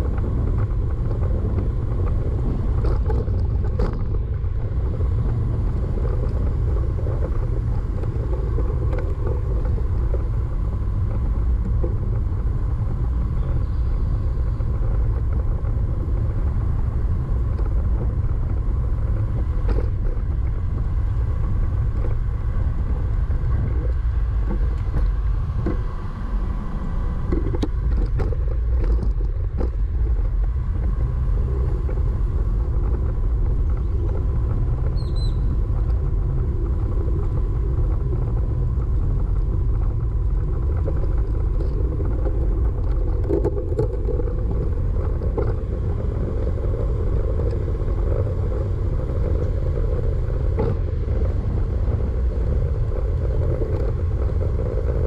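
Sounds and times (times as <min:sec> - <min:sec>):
road traffic passing: 0:00.0 - 0:55.0
wind rumble on microphone: 0:00.0 - 0:55.0.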